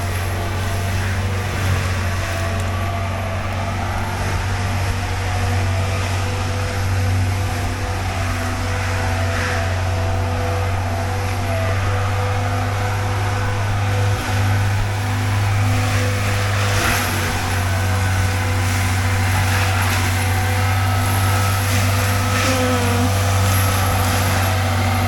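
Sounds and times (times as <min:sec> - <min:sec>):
loud low engine drone: 0:00.0 - 0:25.0.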